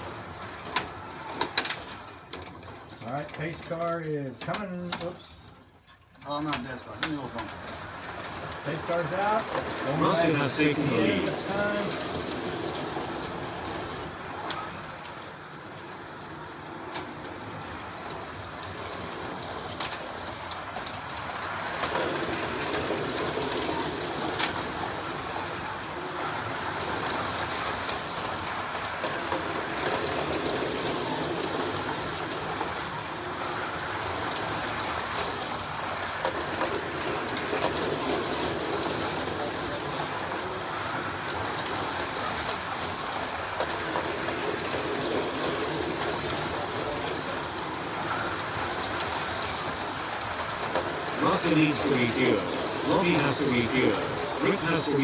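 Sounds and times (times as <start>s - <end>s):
slot cars whirring on track: 0.0s - 55.0s.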